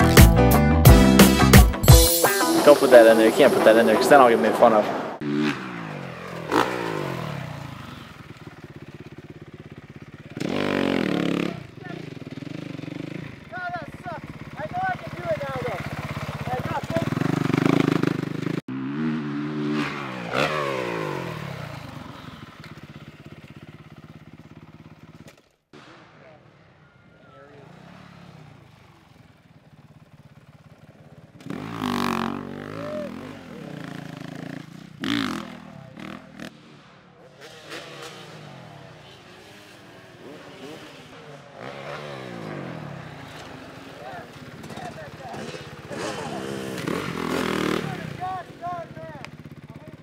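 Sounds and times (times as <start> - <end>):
dirt bike engine revving: 2.8 - 25.3, 26.6 - 50.0.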